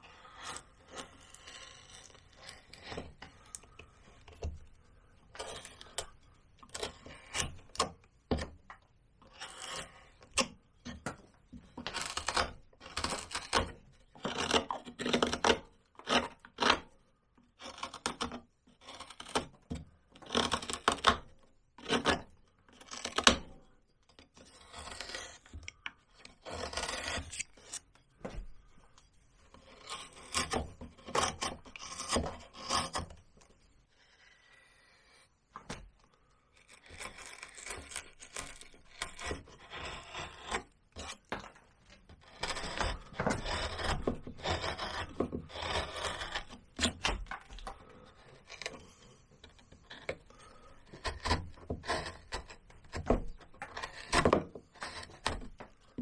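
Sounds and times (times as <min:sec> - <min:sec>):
carving gouge scraping bark: 0:00.0 - 0:08.5, 0:09.2 - 0:11.0, 0:11.6 - 0:28.0, 0:28.6 - 0:35.4, 0:36.5 - 0:56.0.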